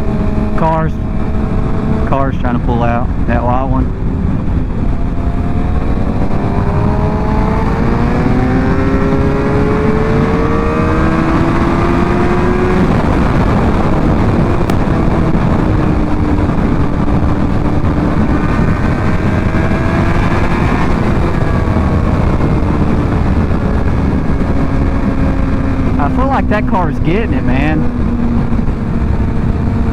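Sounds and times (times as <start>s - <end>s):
wind rush: 0.0s - 29.9s.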